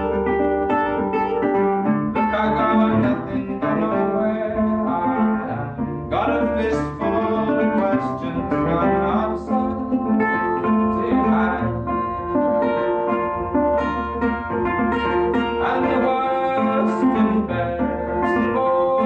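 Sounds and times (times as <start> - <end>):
resonator guitar strummed: 0.0 - 19.0
man singing: 2.1 - 19.0.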